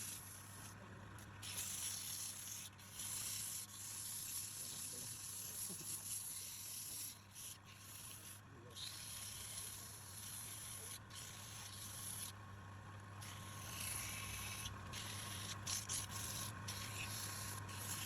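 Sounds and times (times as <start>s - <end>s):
tool scraping spinning wood: 0.0s - 12.4s, 13.0s - 18.0s
wood lathe motor hum: 0.0s - 18.0s.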